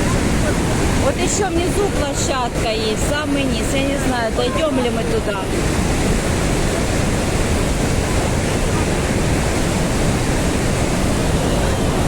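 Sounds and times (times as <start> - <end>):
waterfall crashing: 0.0 - 12.0.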